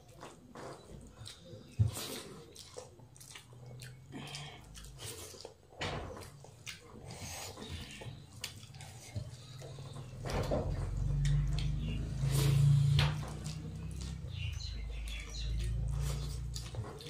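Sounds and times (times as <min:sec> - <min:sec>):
fingers mixing food on steel plates: 0:00.0 - 0:17.0
people chewing: 0:00.0 - 0:17.0.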